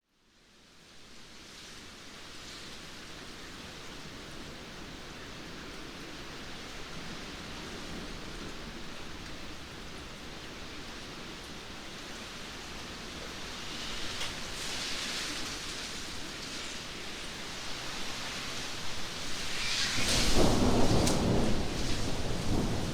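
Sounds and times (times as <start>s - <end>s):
steady rainfall hiss: 0.1s - 22.9s.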